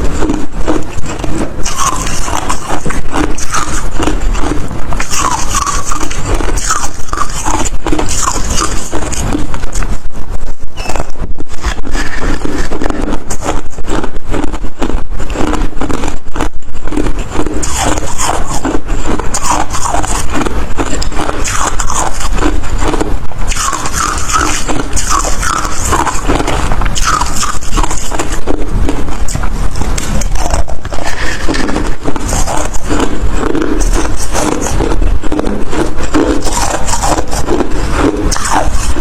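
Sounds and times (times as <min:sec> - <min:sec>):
ice crunching while chewed: 0:00.0 - 0:39.0.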